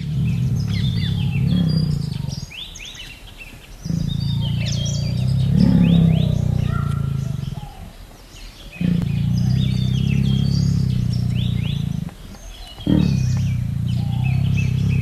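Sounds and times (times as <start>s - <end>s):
small birds chirping: 0.0s - 15.0s
tiger growling: 0.0s - 15.0s.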